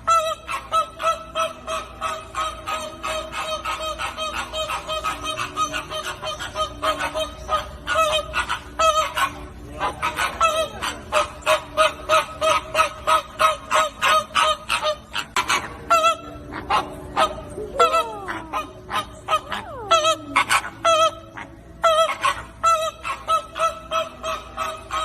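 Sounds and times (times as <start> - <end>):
flamingos honking: 0.0 - 25.0.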